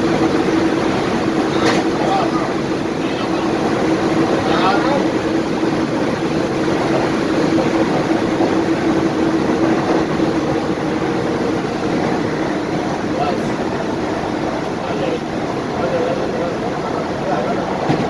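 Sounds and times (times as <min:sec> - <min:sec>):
train coach rumble and hum: 0:00.0 - 0:18.0.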